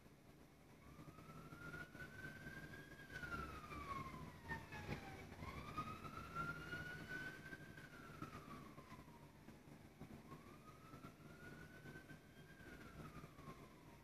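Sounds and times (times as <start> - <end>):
faint siren wailing: 0.6 - 14.0.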